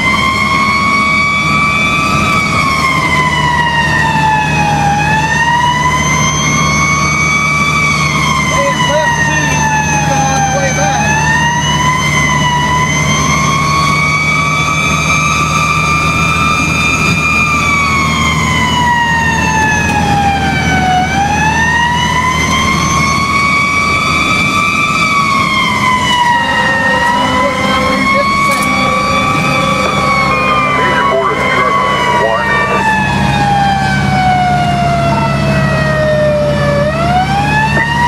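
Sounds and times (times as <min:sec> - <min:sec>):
fire truck siren wailing: 0:00.0 - 0:38.0
steady siren tone: 0:00.0 - 0:38.0
truck engine hum: 0:00.0 - 0:38.0.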